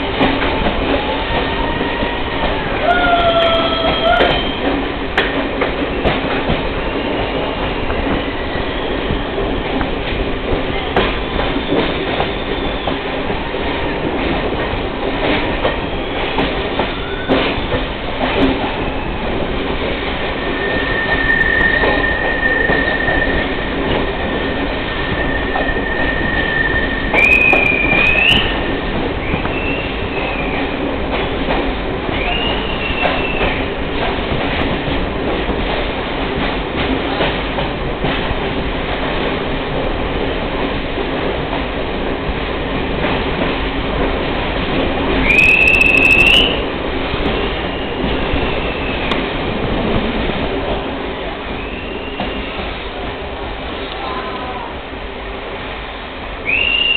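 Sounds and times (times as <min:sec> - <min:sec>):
train rumbling on rails: 0:00.0 - 0:56.9.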